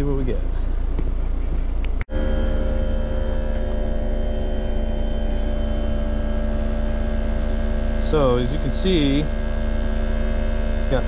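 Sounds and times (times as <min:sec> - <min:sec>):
heat pump compressor and fan hum: 0:00.0 - 0:11.0.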